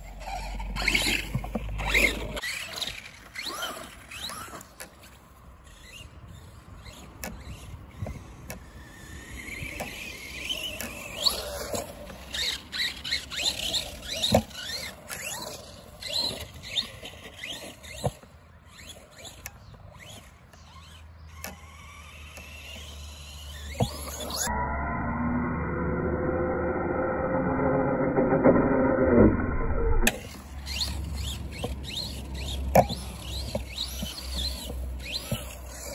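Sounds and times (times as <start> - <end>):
electric motor whine: 0.0 - 35.9.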